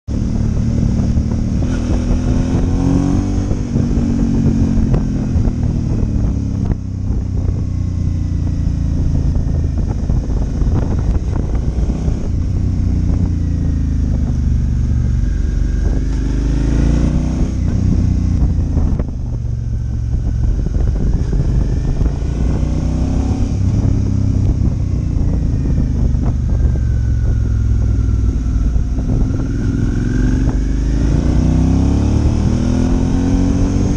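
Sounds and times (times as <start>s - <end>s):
motorcycle engine revving: 0.0s - 33.9s
wind rumble on microphone: 0.1s - 33.9s.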